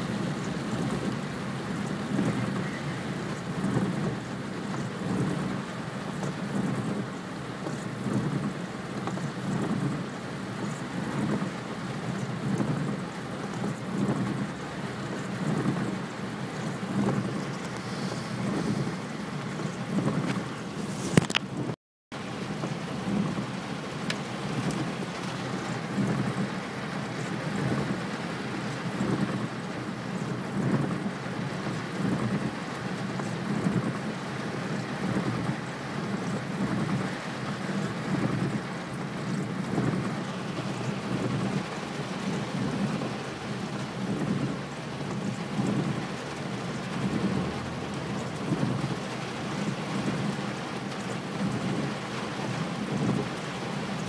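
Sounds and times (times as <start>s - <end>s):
rain pattering on windshield: 0.0s - 54.0s
road and engine rumble: 0.0s - 54.0s.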